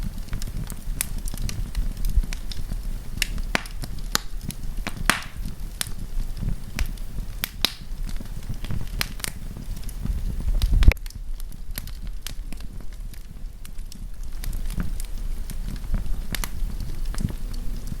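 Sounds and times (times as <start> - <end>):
burning wood crackling and popping: 0.0 - 18.0
campfire flame rumble: 0.0 - 18.0.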